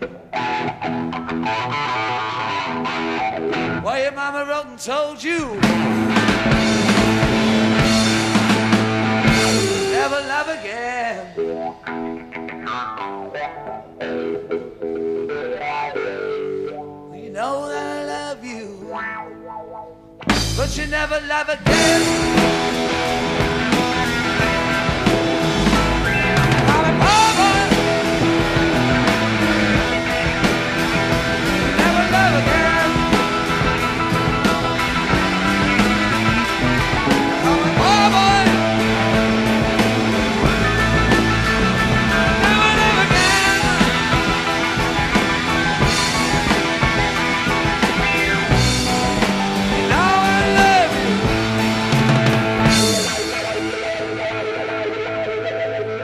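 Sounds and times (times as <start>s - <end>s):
bass: 0.0s - 4.1s, 5.4s - 17.4s, 18.9s - 56.0s
electric guitar lead: 0.0s - 4.1s, 5.4s - 56.0s
blues-rock band playing live: 0.0s - 4.6s, 5.2s - 56.0s
drums: 0.0s - 56.0s.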